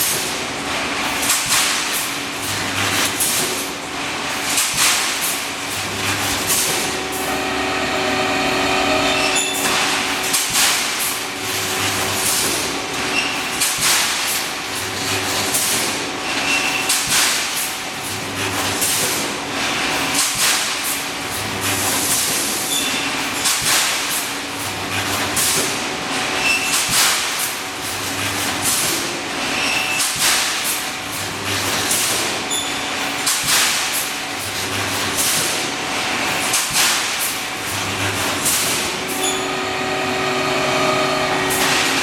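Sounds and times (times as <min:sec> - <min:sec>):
machine clanking: 0:00.0 - 0:42.0
welding transformer hum: 0:00.0 - 0:42.0.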